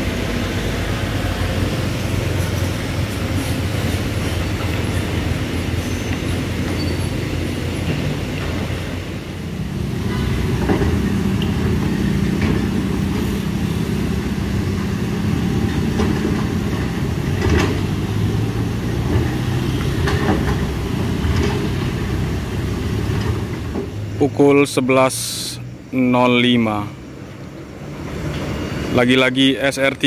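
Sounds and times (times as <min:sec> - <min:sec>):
heavy engine low hum: 0:00.0 - 0:30.0
traffic engines passing: 0:00.0 - 0:30.0.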